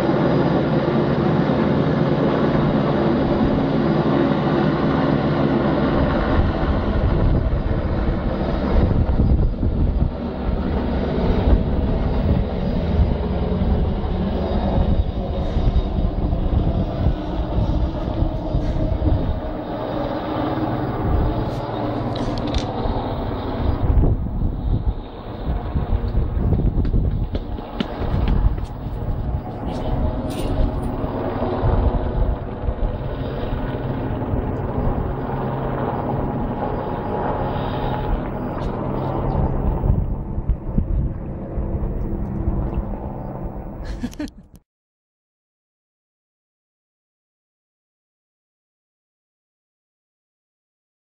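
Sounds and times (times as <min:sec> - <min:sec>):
helicopter flying overhead: 0:00.0 - 0:44.6.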